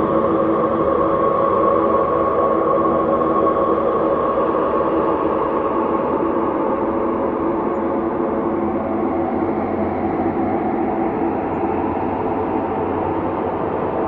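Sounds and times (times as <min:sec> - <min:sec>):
synthesized ambient drone: 0:00.0 - 0:14.0.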